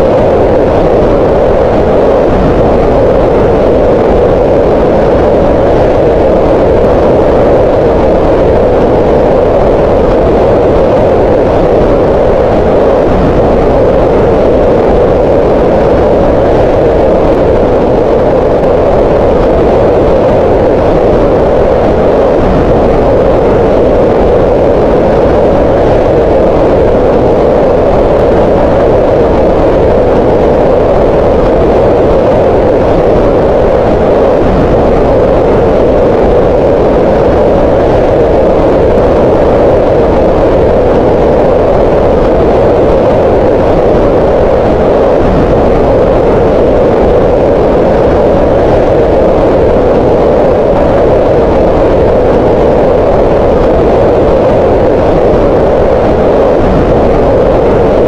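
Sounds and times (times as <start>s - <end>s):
steady loud noise hiss: 0.0s - 58.0s.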